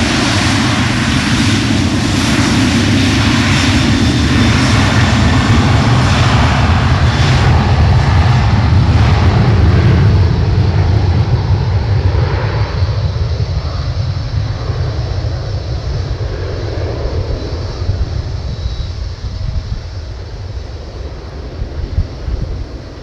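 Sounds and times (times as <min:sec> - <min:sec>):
jet engines rumbling past: 0:00.0 - 0:23.0.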